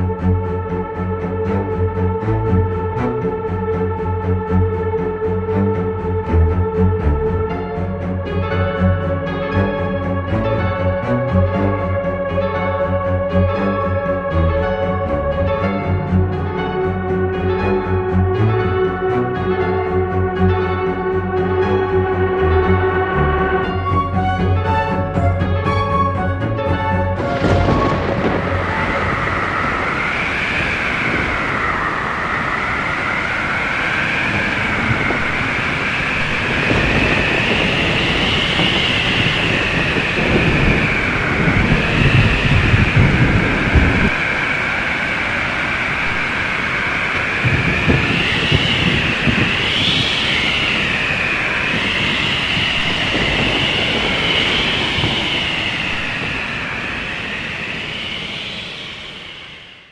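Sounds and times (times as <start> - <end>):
howling wind whistling: 0.0 - 59.9
rumbling gusty wind: 0.0 - 59.9.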